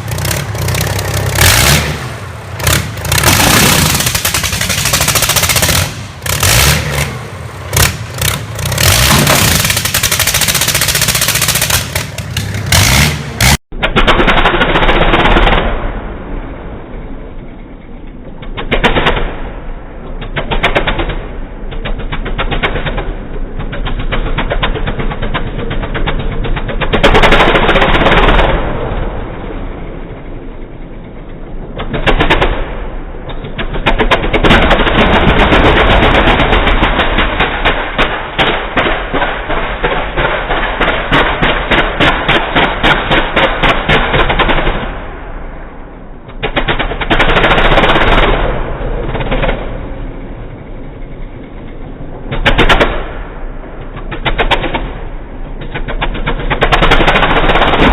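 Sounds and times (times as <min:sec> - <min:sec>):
diesel engine rattling exhaust: 0:00.0 - 0:13.6, 0:20.0 - 0:57.9.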